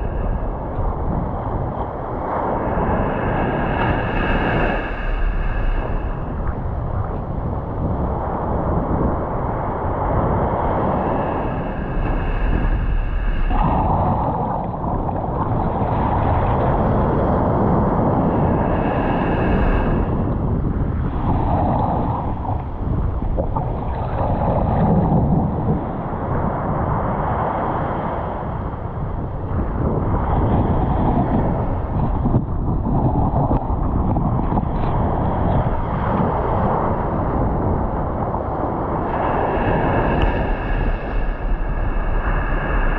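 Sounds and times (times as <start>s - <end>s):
surf washing onto beach: 0.0s - 42.9s
wind rumbling on microphone: 0.0s - 42.9s.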